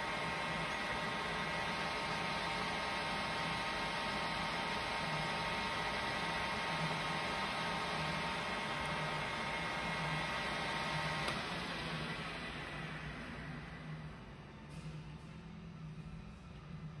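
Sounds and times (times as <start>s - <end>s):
lathe running: 0.0s - 14.3s.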